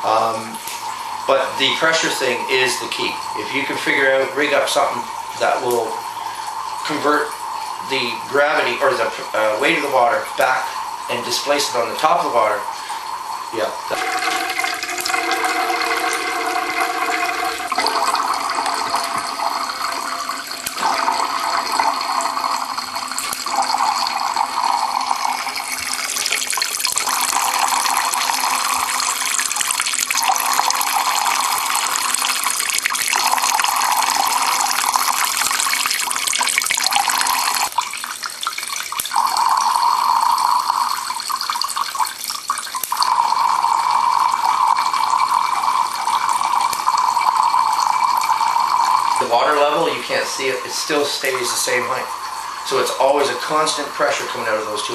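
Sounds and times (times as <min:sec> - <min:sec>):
water streams splashing into cans: 0:00.0 - 0:54.9.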